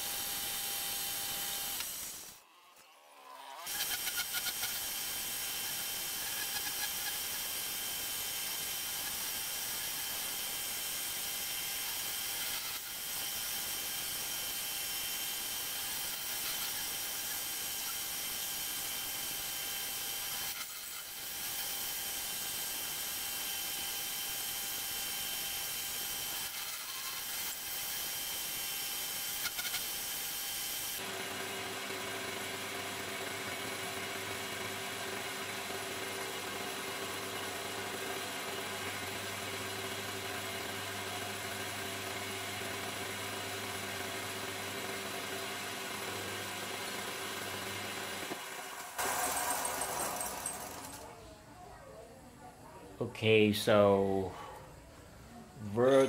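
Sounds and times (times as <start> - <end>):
cutting tool hissing on metal: 0.0 - 2.4, 3.2 - 51.0
metal lathe motor humming: 0.0 - 51.0.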